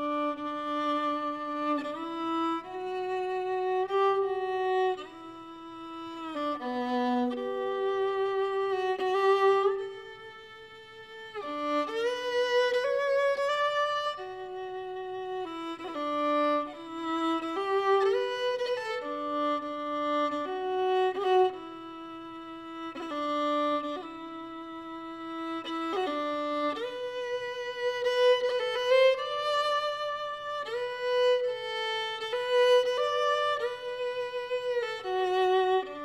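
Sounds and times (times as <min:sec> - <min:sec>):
solo violin melody: 0:00.0 - 0:36.0.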